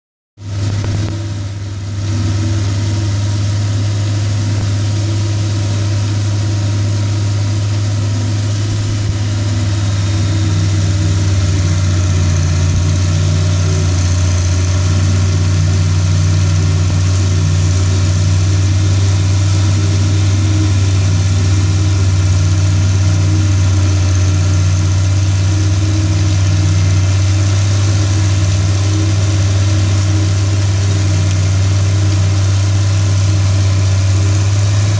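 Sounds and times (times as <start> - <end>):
forage harvester chopping corn: 0.4 - 34.9
tractor diesel engine: 0.4 - 34.9.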